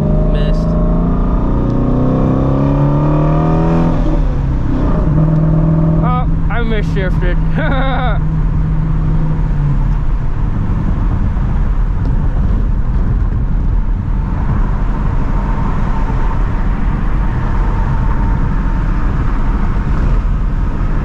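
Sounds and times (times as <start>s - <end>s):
car engine cruising: 0.0s - 21.0s
road noise: 0.0s - 21.0s.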